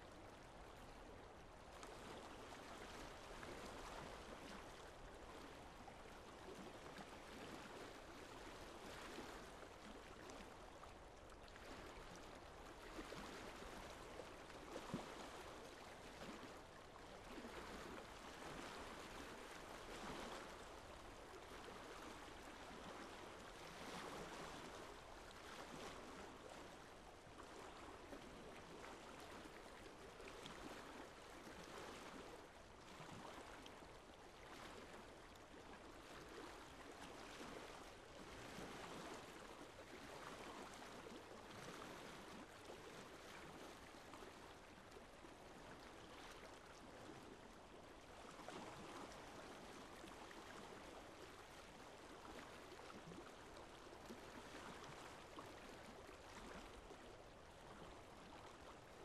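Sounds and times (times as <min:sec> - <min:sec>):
lake water lapping: 0:00.0 - 0:59.0.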